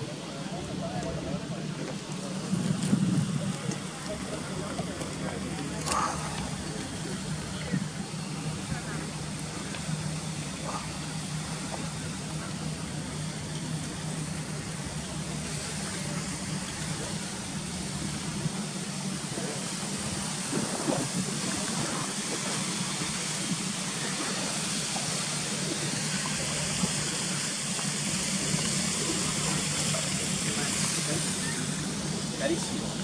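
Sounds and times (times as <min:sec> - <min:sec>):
low steady hum: 0:00.0 - 0:33.0
water rushing through sluices: 0:00.0 - 0:33.0.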